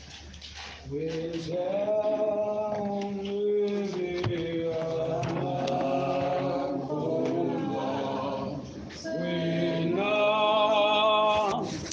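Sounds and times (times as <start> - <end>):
congregation singing a hymn: 0.9 - 11.9.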